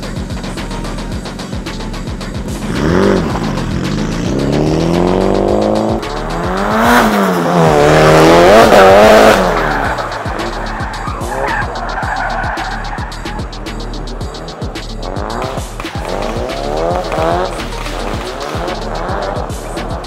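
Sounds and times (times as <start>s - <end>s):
car engine revving: 0.0s - 20.0s
tyres skidding and squealing: 0.0s - 20.0s.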